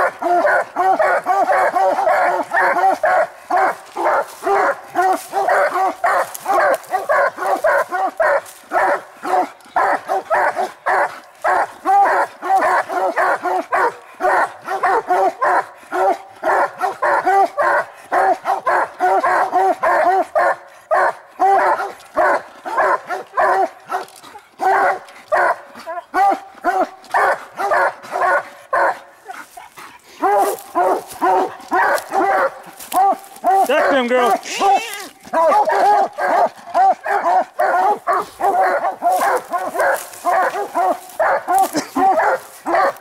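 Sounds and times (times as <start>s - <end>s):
dogs barking rapidly: 0.0s - 43.0s.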